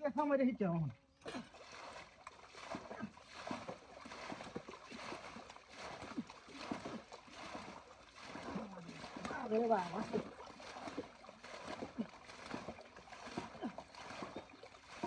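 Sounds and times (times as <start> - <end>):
water splashing and pouring: 1.2 - 15.0.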